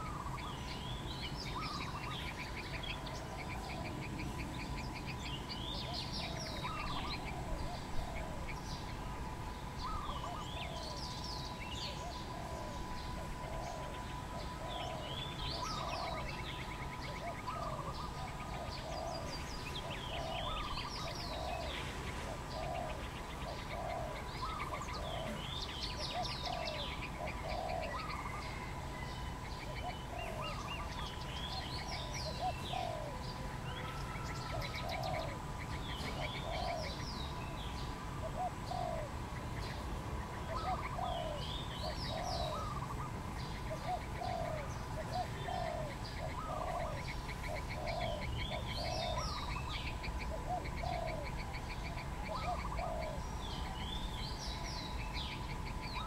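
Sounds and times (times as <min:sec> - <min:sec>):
dove cooing: 0:00.0 - 0:00.8, 0:01.4 - 0:54.7
birds chirping and whistling: 0:00.0 - 0:56.0.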